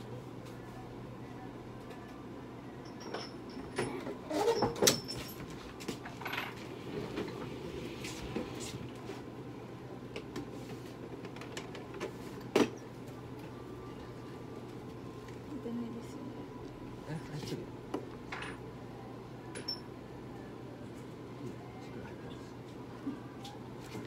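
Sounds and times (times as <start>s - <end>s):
low hum of equipment: 0.0s - 24.0s.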